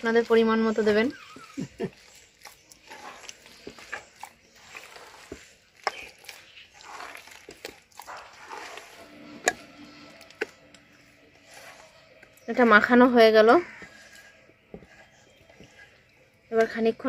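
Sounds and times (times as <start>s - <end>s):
hand squishing wet batter: 0.0s - 17.0s.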